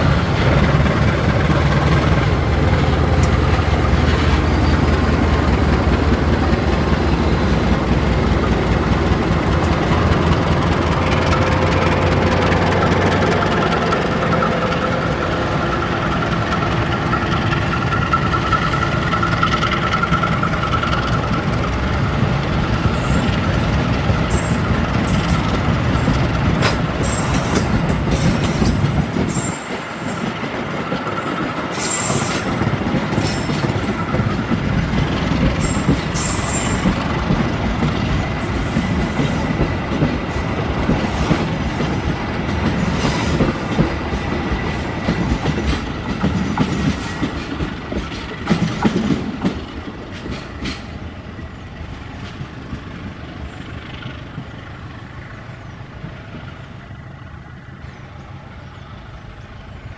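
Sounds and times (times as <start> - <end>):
diesel locomotive engine humming: 0.0 - 59.9
train wheels on rails: 0.0 - 59.9.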